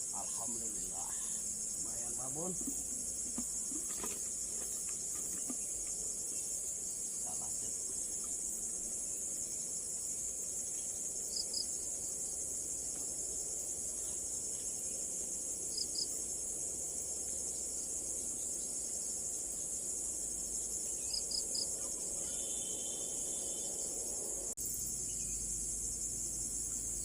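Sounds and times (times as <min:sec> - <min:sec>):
insects shrilling drone: 0:00.0 - 0:27.0.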